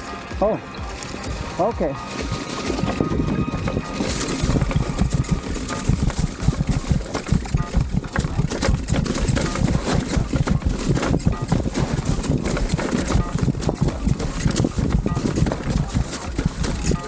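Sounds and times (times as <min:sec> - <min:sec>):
bike chain and frame rattling: 0:00.0 - 0:17.0
bike rolling over dirt: 0:00.0 - 0:17.0
wind buffeting microphone: 0:02.2 - 0:17.0.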